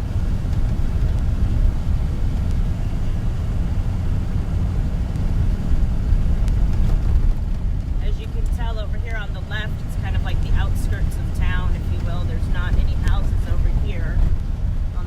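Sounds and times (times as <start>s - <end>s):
car road noise rumble: 0.0s - 15.0s
wind buffeting car: 0.0s - 15.0s.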